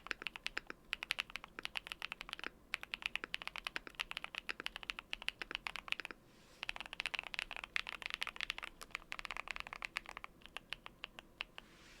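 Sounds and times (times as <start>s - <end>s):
typing on mechanical keyboard: 0.0s - 11.6s.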